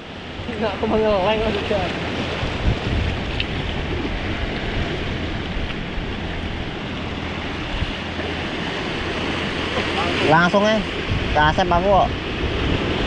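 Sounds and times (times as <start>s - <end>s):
waves washing over rocks: 0.0s - 13.0s
wind rumbling on microphone: 0.0s - 13.0s.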